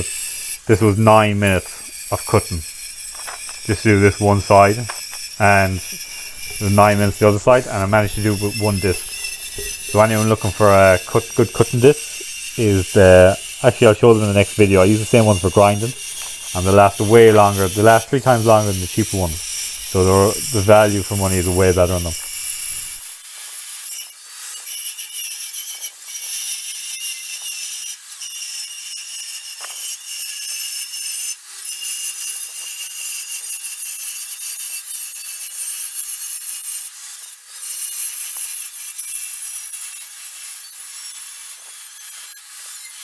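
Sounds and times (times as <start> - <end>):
angle grinder cutting steel: 0.0 - 43.0.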